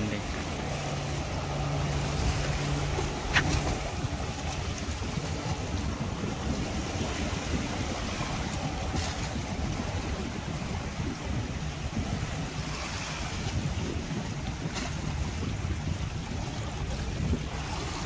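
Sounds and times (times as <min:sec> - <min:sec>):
low motor hum: 0:00.0 - 0:18.0
sea waves: 0:00.0 - 0:18.0
wind noise: 0:00.0 - 0:18.0.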